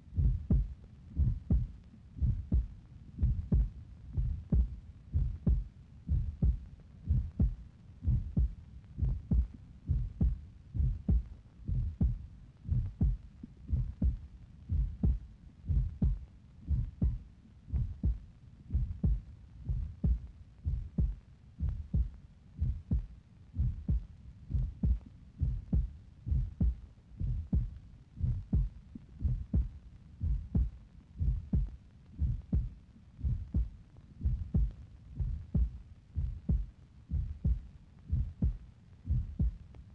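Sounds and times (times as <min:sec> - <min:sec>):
low rhythmic thumps: 0:00.0 - 0:39.8.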